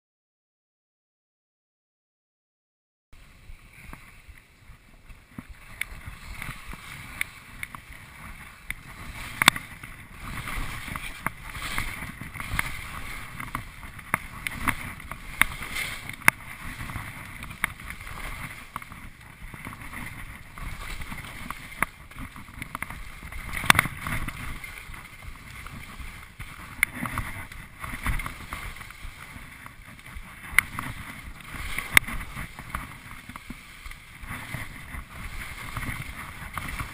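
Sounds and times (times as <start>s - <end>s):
skis scraping over snow: 3.2s - 36.9s
wind on the microphone: 3.2s - 36.9s.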